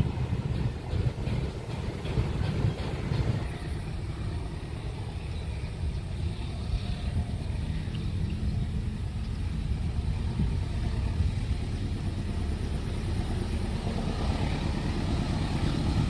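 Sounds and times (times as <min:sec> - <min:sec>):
passing vehicles rumble: 0:00.0 - 0:16.0.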